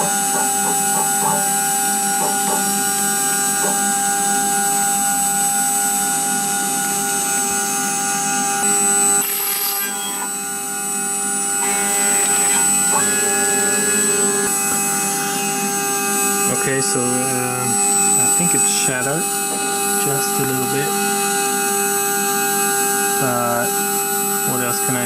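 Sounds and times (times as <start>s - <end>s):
cnc router spindle whining: 0.0s - 25.0s.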